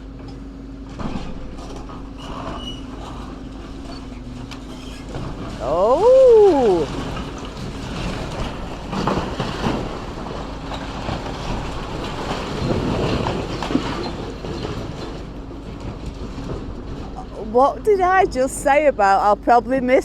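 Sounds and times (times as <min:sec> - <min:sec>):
demolition machinery rumbling: 0:00.0 - 0:20.0
metal and rubble clattering: 0:00.9 - 0:17.7.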